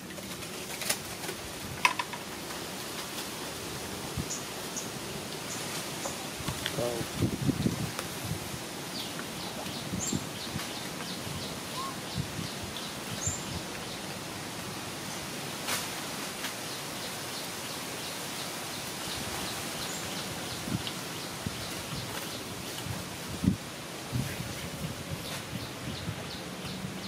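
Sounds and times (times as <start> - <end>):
monkeys rustling on sand: 0.0 - 27.0
outdoor background hiss: 0.0 - 27.0.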